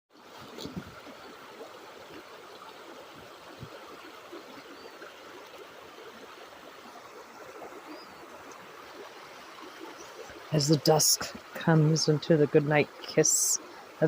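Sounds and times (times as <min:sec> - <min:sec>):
stream water flowing: 0:00.1 - 0:14.0.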